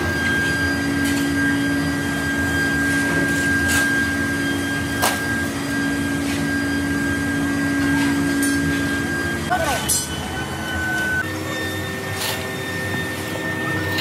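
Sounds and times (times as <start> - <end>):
machine tool hum with whine: 0.0 - 14.0.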